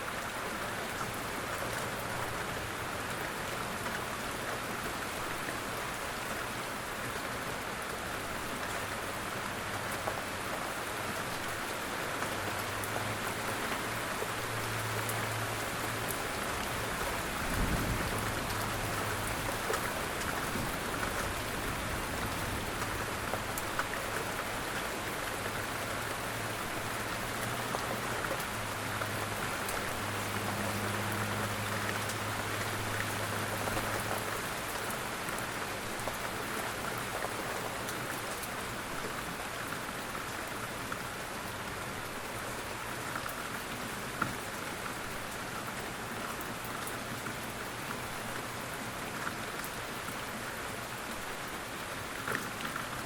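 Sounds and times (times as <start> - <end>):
rain pattering on a surface: 0.0 - 53.0.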